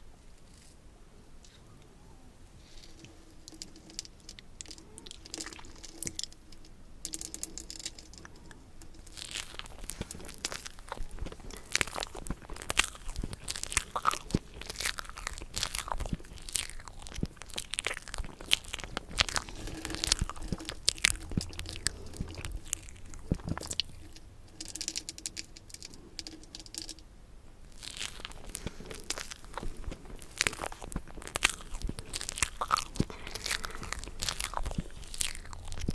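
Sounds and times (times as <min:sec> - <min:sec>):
crunchy food chewing: 0:02.6 - 0:35.9.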